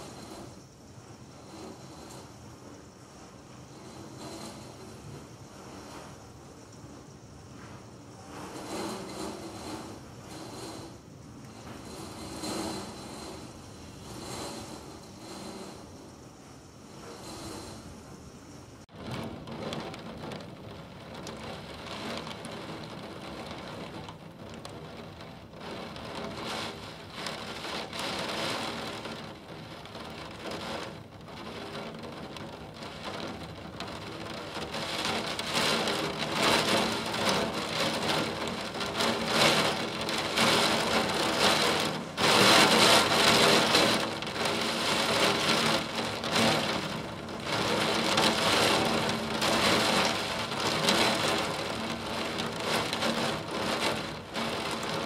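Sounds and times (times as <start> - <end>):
gusting wind: 0.0 - 55.0
heavy rain: 0.0 - 55.0.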